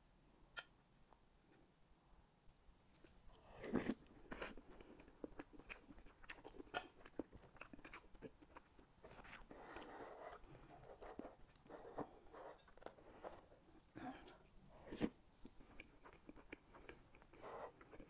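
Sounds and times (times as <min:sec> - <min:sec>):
person chewing with mouth smacks: 0:03.3 - 0:18.0.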